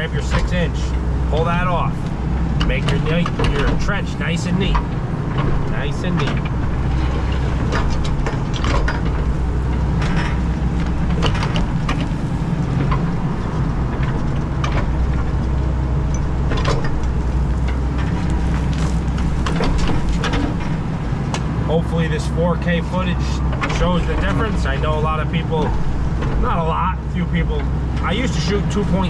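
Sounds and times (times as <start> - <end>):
excavator diesel engine under load: 0.0 - 29.0.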